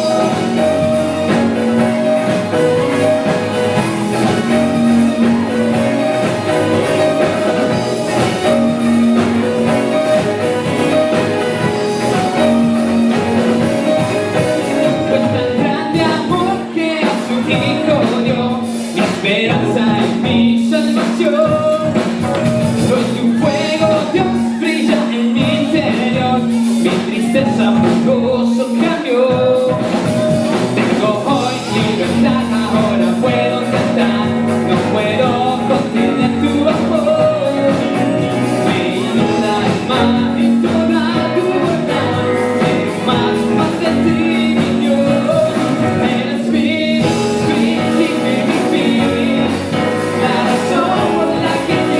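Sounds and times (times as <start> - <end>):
rock song with singing: 0.0 - 51.9.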